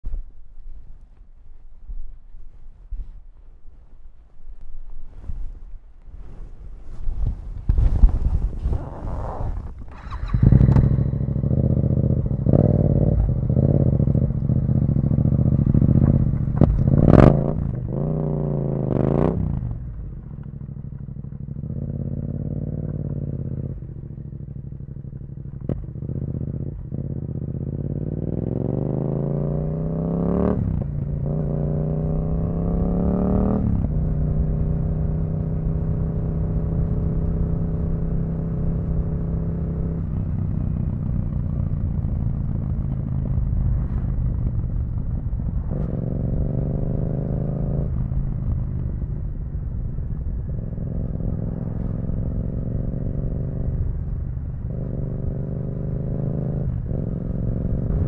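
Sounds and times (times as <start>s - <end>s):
motorcycle engine revving: 8.2s - 58.0s.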